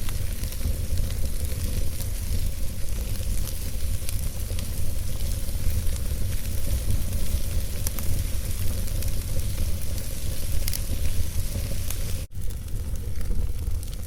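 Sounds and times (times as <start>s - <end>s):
campfire crackling and popping: 0.0s - 14.0s
low rumble of wind: 0.0s - 14.0s.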